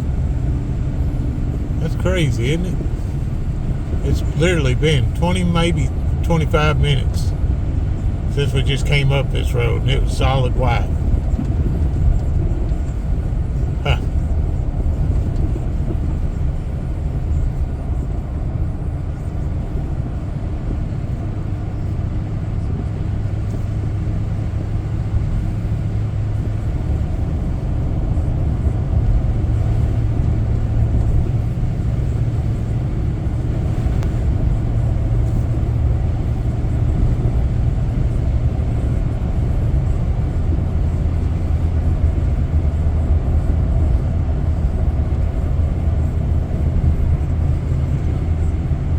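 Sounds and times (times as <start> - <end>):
car engine and tyres rumbling: 0.0 - 48.9.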